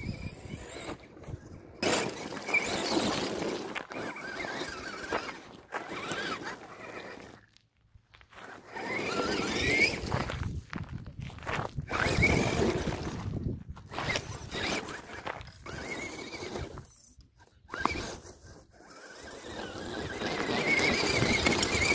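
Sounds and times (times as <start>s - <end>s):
electric motor and gears whining: 0.0s - 7.6s, 8.4s - 21.9s
tyres crunching on gravel: 0.4s - 17.1s, 17.8s - 21.9s.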